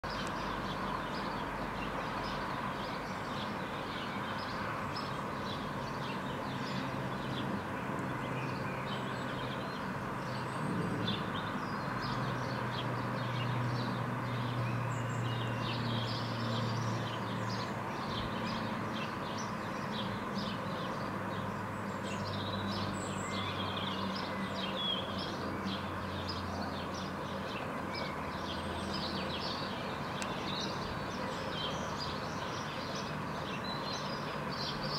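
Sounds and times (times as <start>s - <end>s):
distant traffic hum: 0.0s - 34.9s
low engine drone: 0.1s - 33.0s
small birds chirping: 0.1s - 34.9s.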